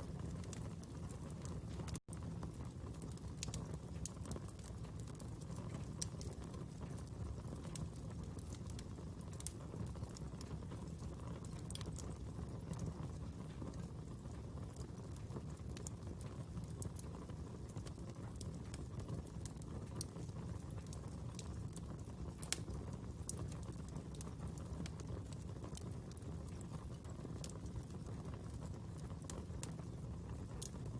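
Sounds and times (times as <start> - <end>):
fire crackling and popping: 0.0 - 30.9.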